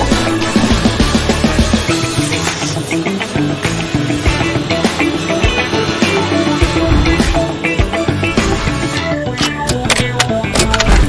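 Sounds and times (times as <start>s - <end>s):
music with driving beat and guitar: 0.0s - 11.0s.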